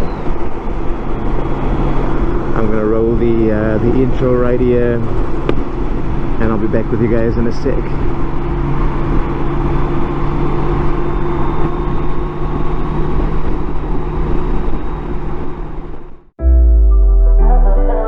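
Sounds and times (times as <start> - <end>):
wind and road noise: 0.0 - 16.3.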